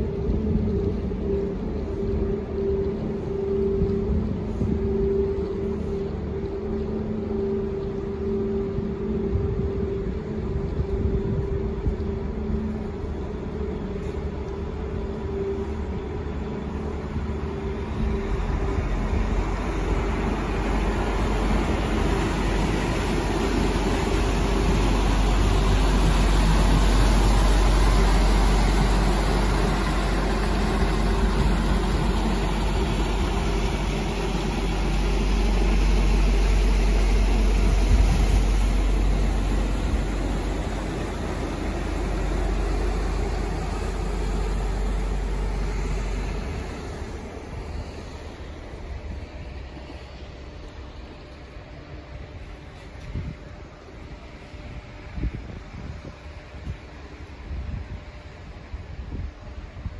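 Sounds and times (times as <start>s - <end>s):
barge diesel engine rumble: 0.0s - 55.8s
churning propeller wash: 0.0s - 59.9s.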